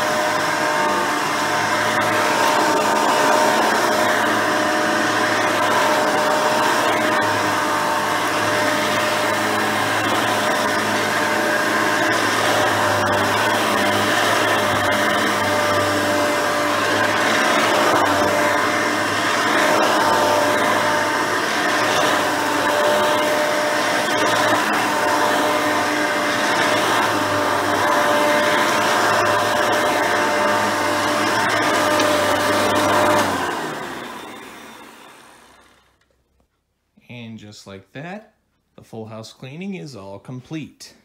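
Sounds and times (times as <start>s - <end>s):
upright vacuum cleaner running: 0.0s - 36.2s.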